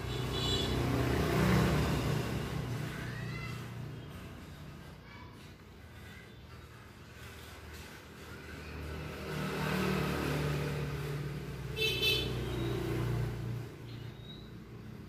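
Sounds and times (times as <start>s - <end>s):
vehicle engine rumbling past: 0.0s - 15.0s.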